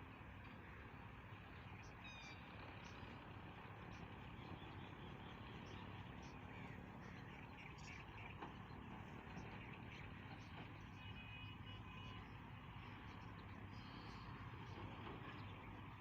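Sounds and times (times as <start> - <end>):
low steady background hum: 0.0 - 16.0
small birds chirping: 1.4 - 16.0.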